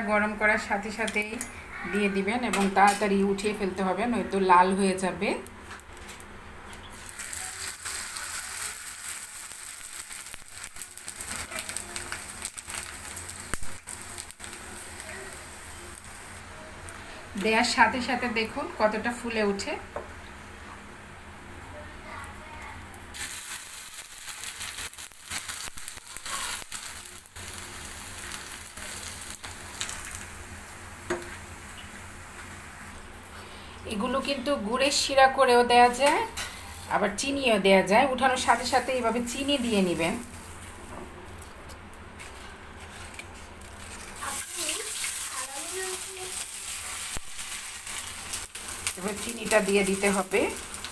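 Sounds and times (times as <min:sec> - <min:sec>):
frying in hot oil: 0:00.0 - 0:50.9.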